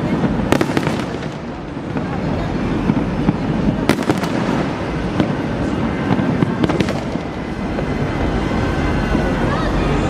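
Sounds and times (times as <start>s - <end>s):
fireworks bangs and crackles: 0.0s - 10.0s
low rumble of fireworks: 0.0s - 10.0s.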